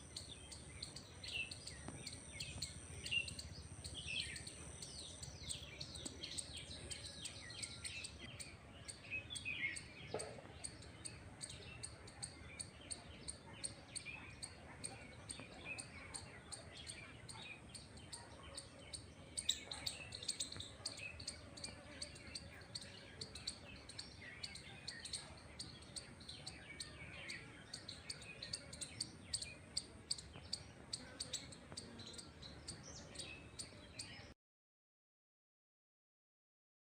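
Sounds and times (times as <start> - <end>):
birds chirping and calling: 0.0 - 34.3.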